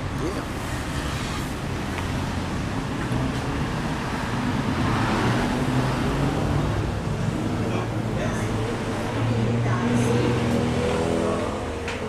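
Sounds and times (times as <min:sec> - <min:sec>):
city street traffic hum: 0:00.0 - 0:12.0.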